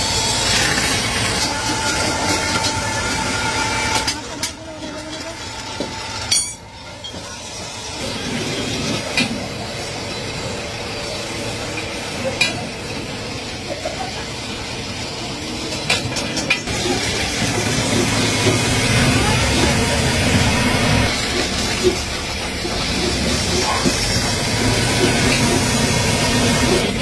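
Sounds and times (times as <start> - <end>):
workshop machine noise: 0.0 - 27.0.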